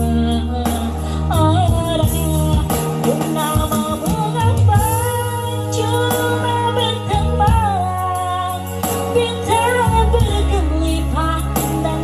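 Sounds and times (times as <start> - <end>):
ballad backing track: 0.0 - 12.0
sliding lead melody: 0.0 - 12.0.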